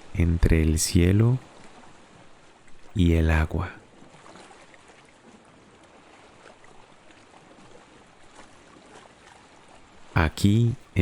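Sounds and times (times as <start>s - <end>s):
faint sea wash: 0.0s - 11.0s.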